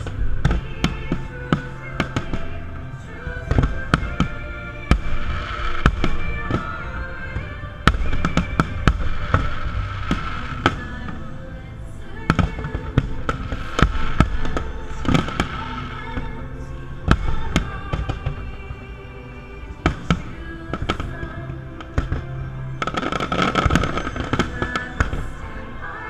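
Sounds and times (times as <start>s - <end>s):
music playing: 0.0s - 26.0s.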